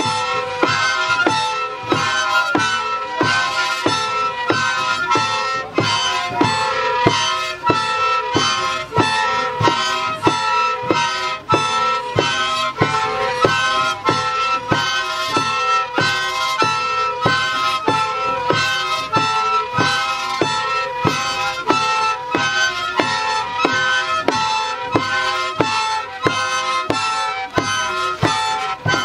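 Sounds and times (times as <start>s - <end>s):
drum beating steadily: 0.0s - 29.0s
shrill reedy flutes: 0.0s - 29.0s.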